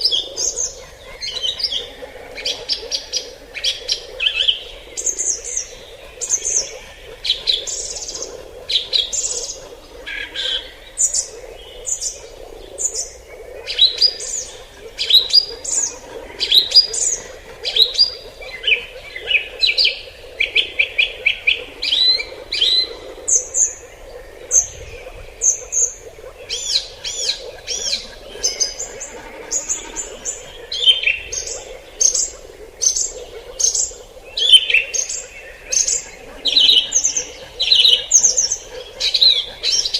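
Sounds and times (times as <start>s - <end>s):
forest birds chirping and singing: 0.0s - 39.9s.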